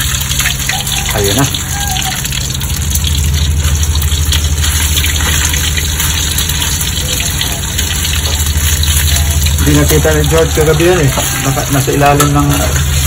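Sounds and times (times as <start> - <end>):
constant low hum: 0.0 - 13.0
meat frying in hot oil: 0.0 - 13.0.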